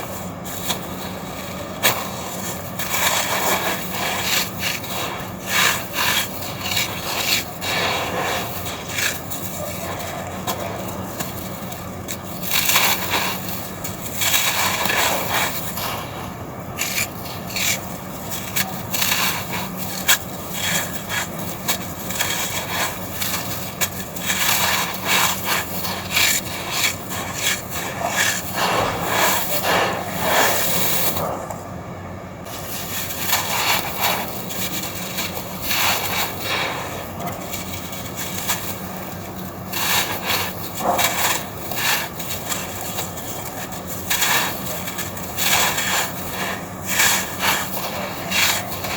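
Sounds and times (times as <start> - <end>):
dry sand crunching and crumbling: 0.0 - 31.4, 32.4 - 48.9.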